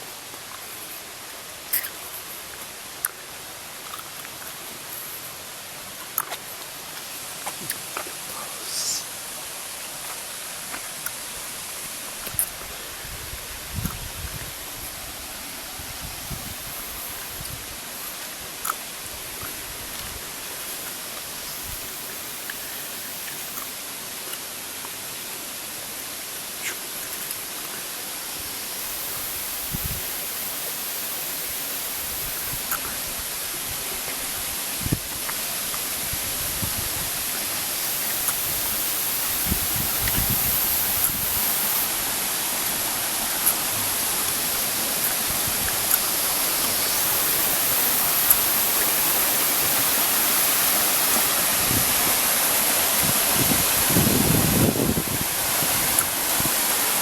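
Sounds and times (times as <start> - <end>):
waterfall rushing: 2.7 - 57.0.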